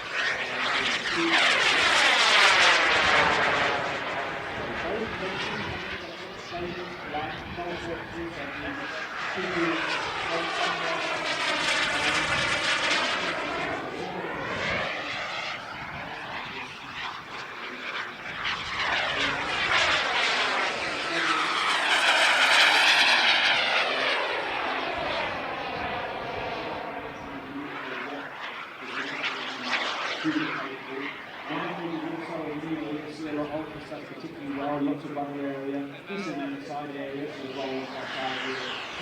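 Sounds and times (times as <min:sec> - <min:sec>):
model jet turbine whine: 0:00.0 - 0:39.0.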